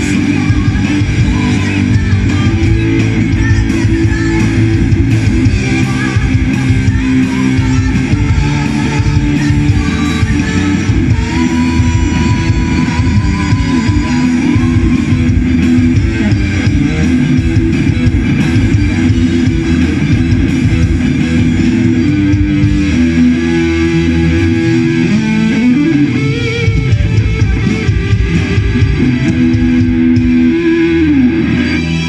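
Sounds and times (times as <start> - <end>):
bass guitar: 0.0 - 32.0
drums: 0.0 - 32.0
electric guitar long notes: 0.0 - 32.0.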